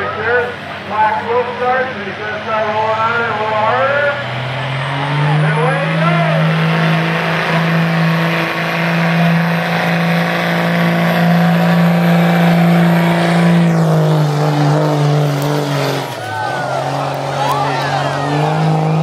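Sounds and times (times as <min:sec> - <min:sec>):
diesel engine running hard: 0:00.0 - 0:19.0.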